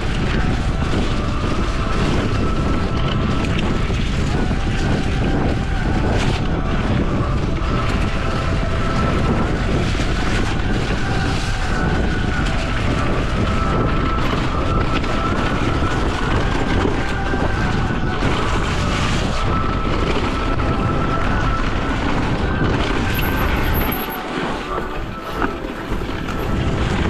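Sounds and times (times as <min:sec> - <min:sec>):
bike tyres rattling over dirt: 0:00.0 - 0:27.0
wind buffeting microphone: 0:00.0 - 0:27.0.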